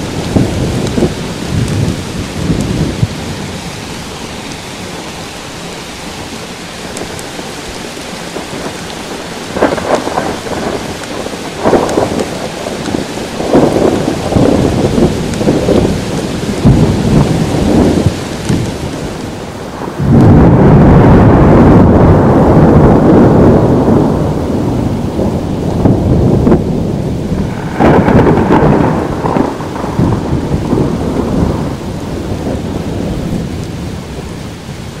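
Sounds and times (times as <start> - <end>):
loud thunderclap: 0.0 - 3.9, 8.3 - 34.3
steady rain: 0.0 - 35.0
thunder rumbling: 0.0 - 35.0.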